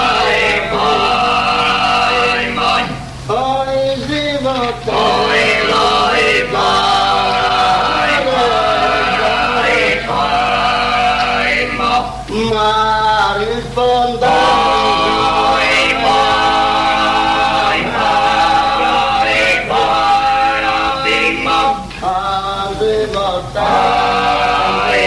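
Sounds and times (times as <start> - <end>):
men singing with low drone: 0.0 - 25.0.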